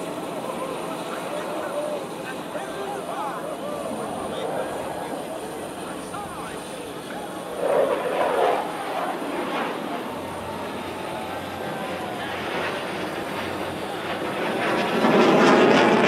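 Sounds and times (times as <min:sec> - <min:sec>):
fighter jets flying past: 0:00.0 - 0:16.0.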